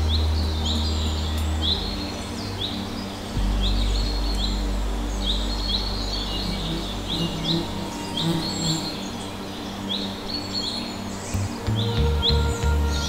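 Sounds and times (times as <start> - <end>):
bird calling high upswept notes: 0.4 - 13.0.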